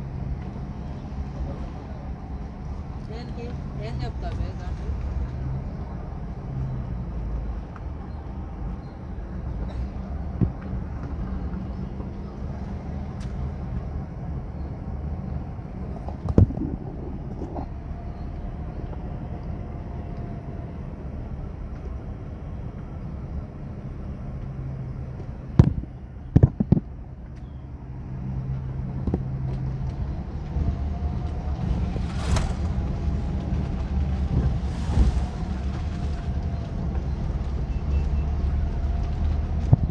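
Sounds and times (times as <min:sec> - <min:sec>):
car engine and tyre rumble: 0:00.0 - 0:39.9
oncoming vehicles passing: 0:00.0 - 0:39.9.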